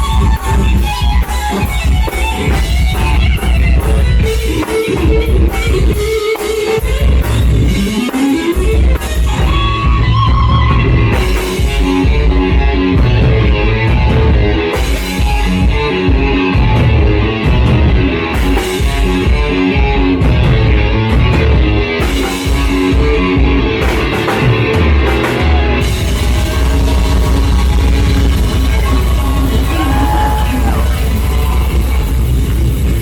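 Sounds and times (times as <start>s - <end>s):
distorted electric guitar: 0.0s - 33.0s
heavy rock music: 0.0s - 33.0s.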